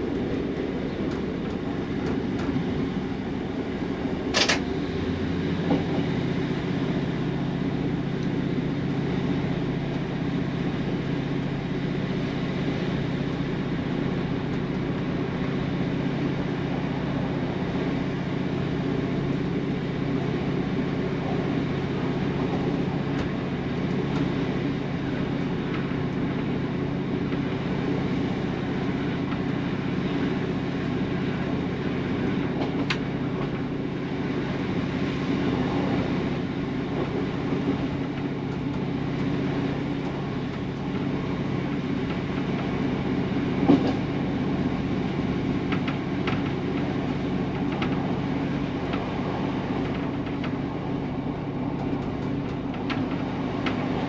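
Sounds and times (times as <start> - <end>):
diesel engine drone: 0.0 - 54.0
wheel rail noise: 0.0 - 54.0.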